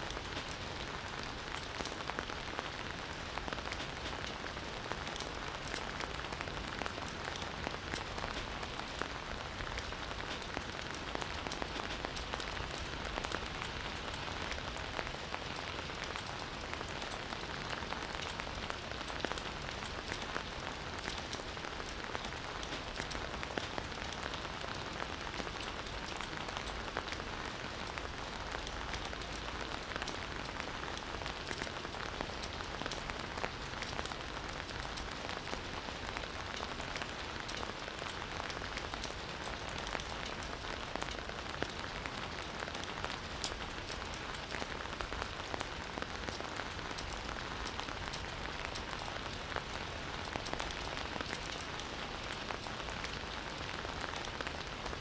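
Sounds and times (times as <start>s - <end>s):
campfire hissing and crackling: 0.1s - 55.0s.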